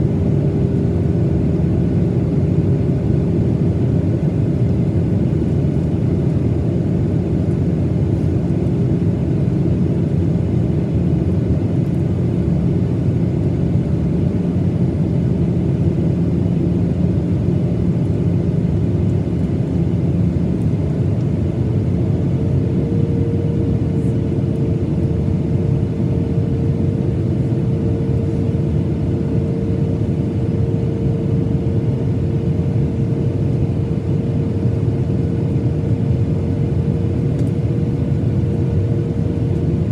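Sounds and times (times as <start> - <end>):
jet engine roar and airflow: 0.0 - 39.9.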